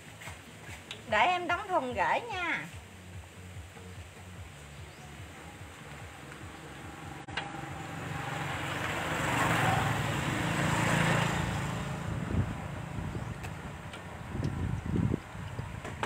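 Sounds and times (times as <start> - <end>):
rushing noise with low hum: 0.0 - 16.0.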